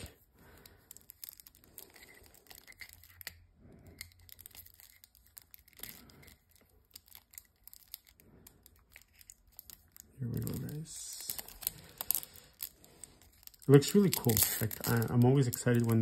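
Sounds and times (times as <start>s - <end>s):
plastic wrapper crinkling and tearing: 0.0s - 16.0s.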